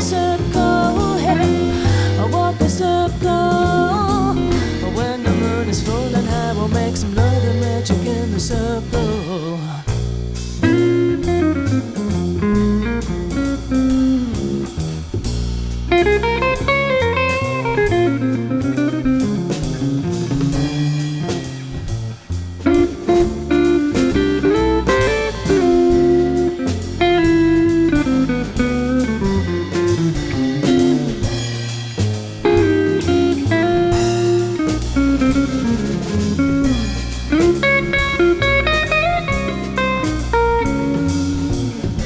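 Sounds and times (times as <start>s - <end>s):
electric guitar with bent notes: 0.0s - 9.3s, 10.6s - 42.0s
blues-rock instrumental music: 0.0s - 9.4s, 10.0s - 42.0s.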